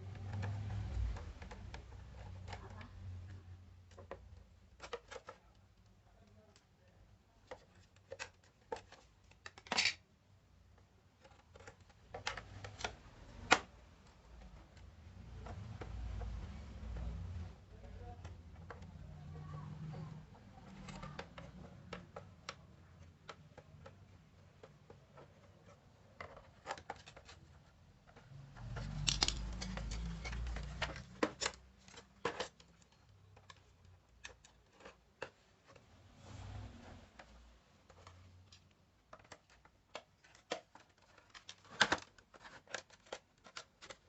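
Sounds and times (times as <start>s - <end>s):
handling clicks and scrapes: 0.0s - 44.0s.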